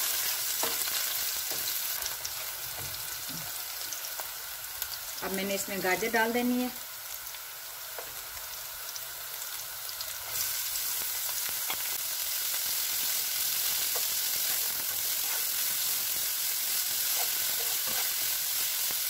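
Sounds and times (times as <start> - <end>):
vegetables frying in oil: 0.0 - 19.0.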